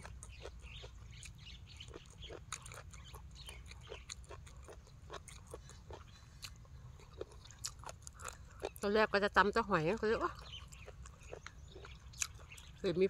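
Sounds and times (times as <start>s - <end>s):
chewing and lip-smacking: 0.0s - 9.0s, 9.8s - 12.8s.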